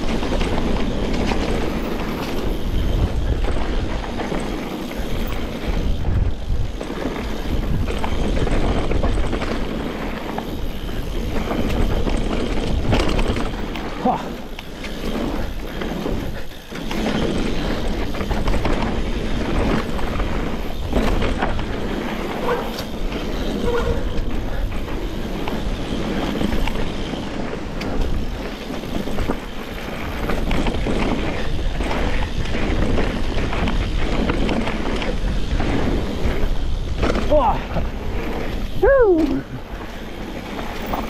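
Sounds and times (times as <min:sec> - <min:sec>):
wind on microphone: 0:00.0 - 0:14.5, 0:15.1 - 0:41.0
bike rattling over bumps: 0:00.0 - 0:41.0
bike tyres on dirt and rock: 0:00.0 - 0:41.0.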